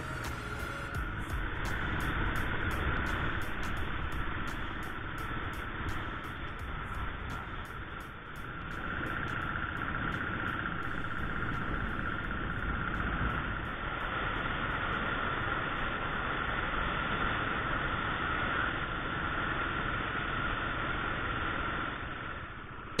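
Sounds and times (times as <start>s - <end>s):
wind noise: 0.0s - 21.9s
constant hum: 0.0s - 23.0s.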